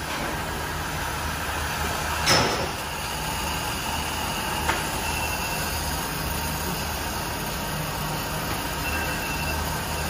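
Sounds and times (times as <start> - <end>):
water boiling in kettle: 1.7 - 10.0.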